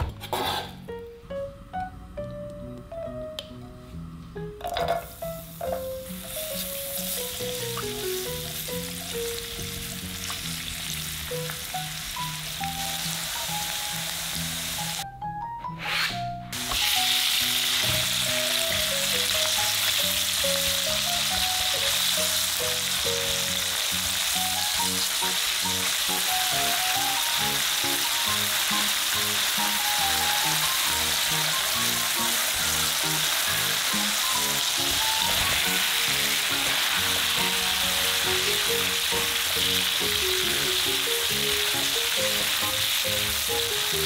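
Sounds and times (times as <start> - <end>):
light background music: 0.0 - 44.0
meat sizzling in a frying pan: 5.1 - 15.0, 16.6 - 44.0.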